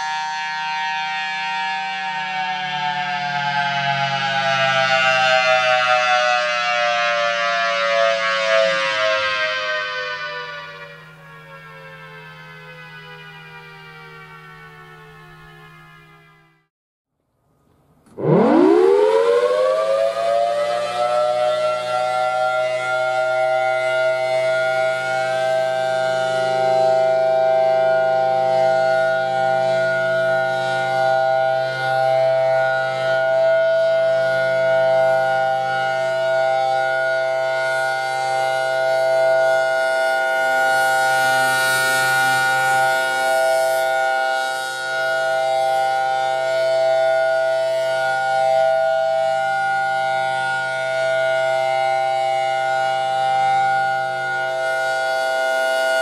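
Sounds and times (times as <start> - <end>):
rotating warning siren: 0.0 - 16.7, 18.0 - 56.0.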